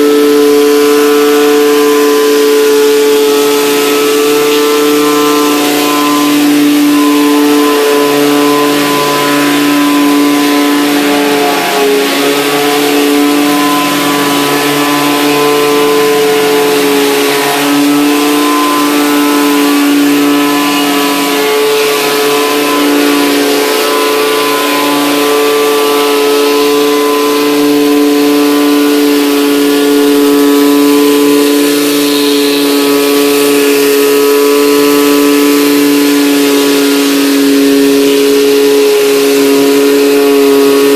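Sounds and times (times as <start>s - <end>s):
high-pressure water spraying on wood: 0.0s - 40.9s
pressure washer engine running: 0.0s - 40.9s.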